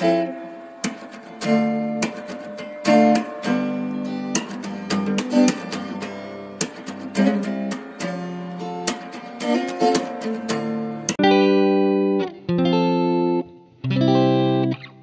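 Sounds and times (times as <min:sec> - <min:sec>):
strummed guitar chords: 0:00.0 - 0:15.0.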